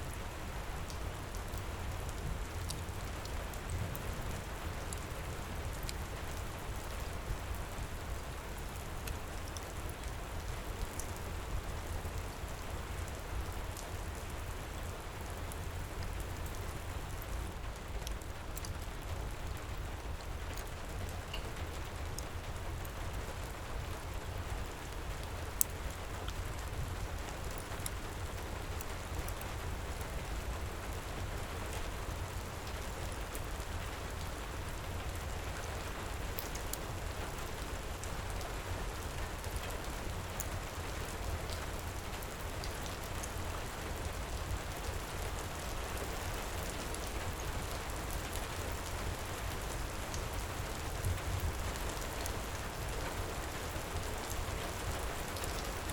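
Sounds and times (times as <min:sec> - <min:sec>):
heavy rain falling: 0:00.1 - 0:55.9.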